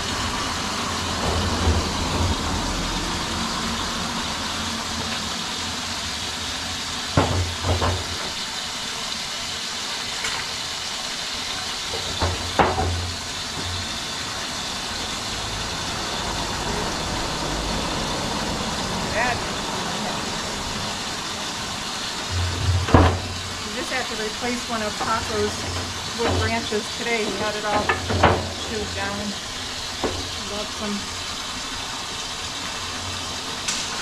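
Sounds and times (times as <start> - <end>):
hose water running into barrel: 0.0 - 34.0.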